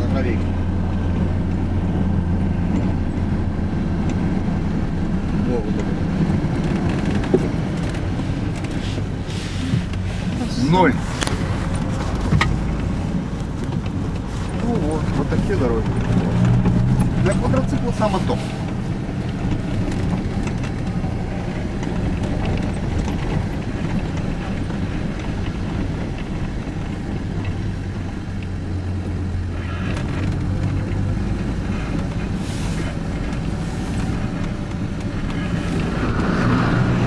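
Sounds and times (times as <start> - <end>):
road and tyre noise: 0.0 - 37.0
vehicle engine drone: 0.0 - 37.0.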